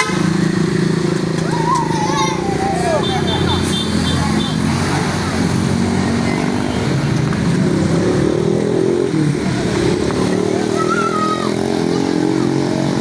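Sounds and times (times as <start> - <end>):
road traffic engines: 0.0 - 13.0.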